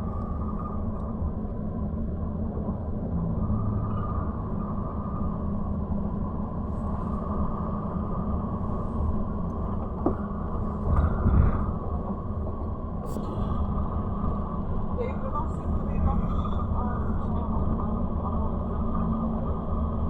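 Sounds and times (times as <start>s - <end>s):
car driving rumble from inside: 0.0s - 20.0s.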